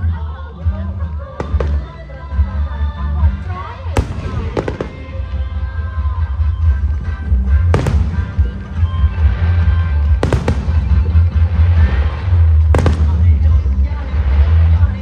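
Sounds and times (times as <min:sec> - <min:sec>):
continuous low rumble: 0:00.0 - 0:15.0
fireworks bangs: 0:01.4 - 0:15.0.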